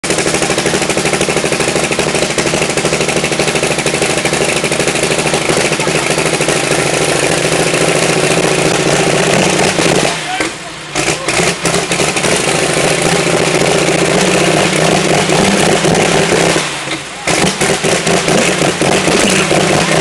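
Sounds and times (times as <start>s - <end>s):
tractor engine running loud: 0.0s - 20.0s.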